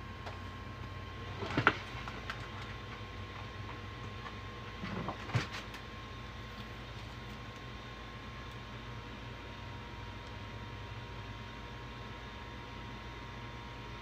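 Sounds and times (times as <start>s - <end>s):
three d printer humming: 0.0s - 14.0s.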